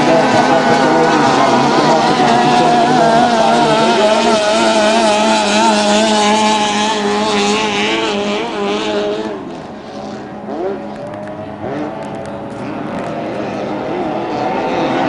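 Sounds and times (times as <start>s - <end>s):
powerboat engine passing: 0.0s - 15.0s.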